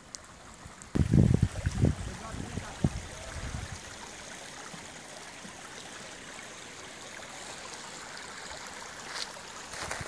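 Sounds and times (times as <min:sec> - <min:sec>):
creek running over stones: 0:00.0 - 0:10.0.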